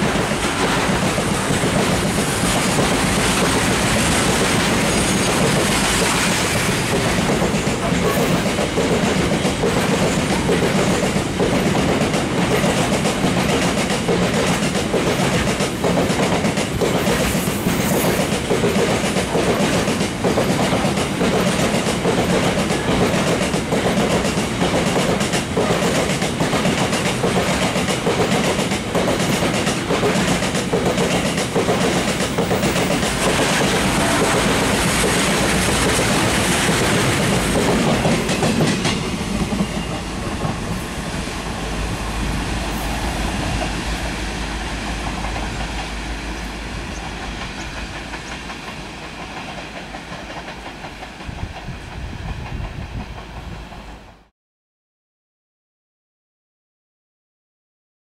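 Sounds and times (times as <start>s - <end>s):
train wheels clattering: 0.0s - 53.8s
low train rumble: 0.0s - 54.3s.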